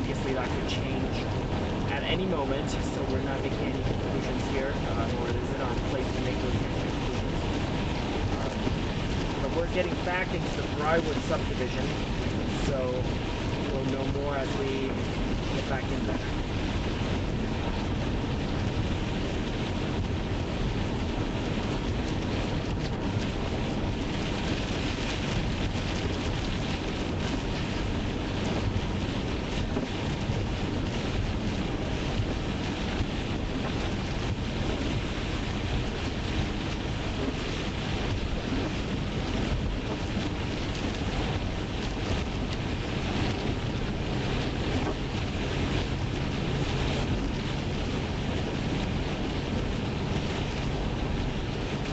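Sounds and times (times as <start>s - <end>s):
car road and tyre noise: 0.0s - 51.9s.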